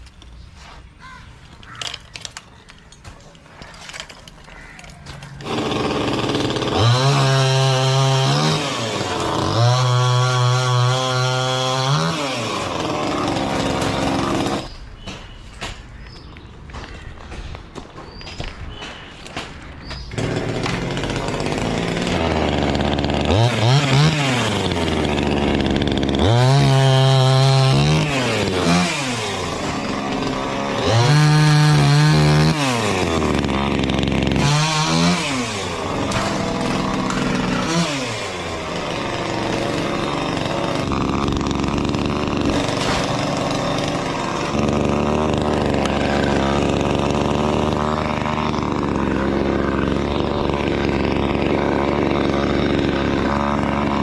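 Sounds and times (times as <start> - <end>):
chainsaw engine revving: 3.9 - 14.7, 20.0 - 54.0
chainsaw idling: 3.9 - 14.7, 20.1 - 54.0.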